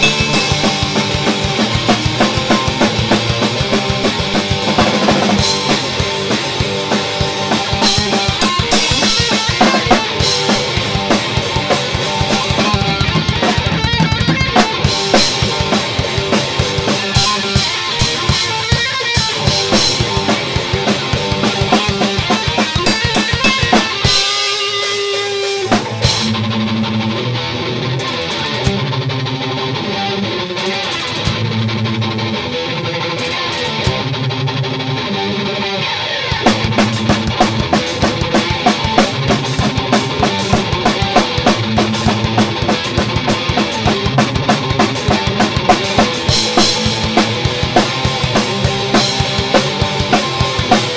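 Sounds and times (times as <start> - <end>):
drum kit playing fast: 0.0 - 26.8, 28.0 - 28.8, 30.6 - 31.5, 36.2 - 50.9
electric guitar: 0.0 - 50.9.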